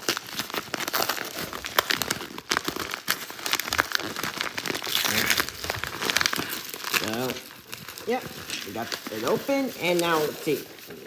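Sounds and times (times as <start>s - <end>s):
paper envelope crinkling: 0.0s - 11.0s.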